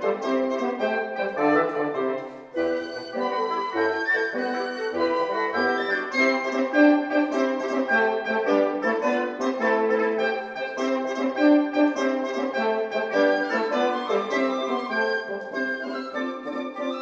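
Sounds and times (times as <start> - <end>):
woodwind quintet playing: 0.0 - 17.0.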